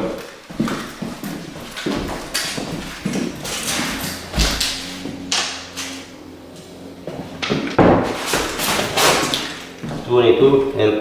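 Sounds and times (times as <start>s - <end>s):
scraping on wooden floorboards: 0.1s - 10.8s.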